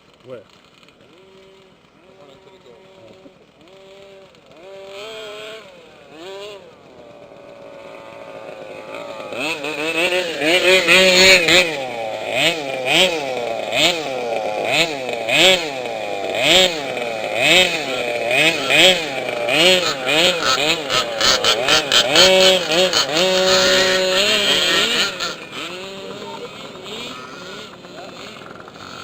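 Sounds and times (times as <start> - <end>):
small two-stroke engine revving: 0.0 - 29.0.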